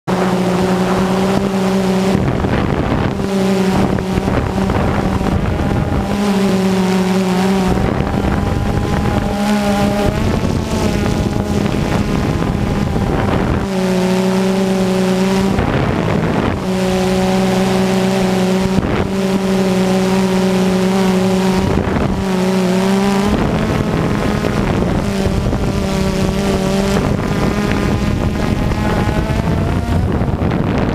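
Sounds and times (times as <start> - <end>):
drone propellers buzzing: 0.0 - 30.9
wind noise on microphone: 0.1 - 30.9.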